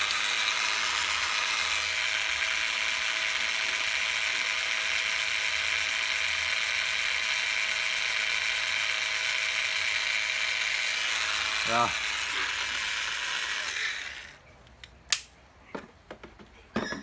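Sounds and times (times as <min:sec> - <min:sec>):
cordless drill whine: 0:00.0 - 0:14.4.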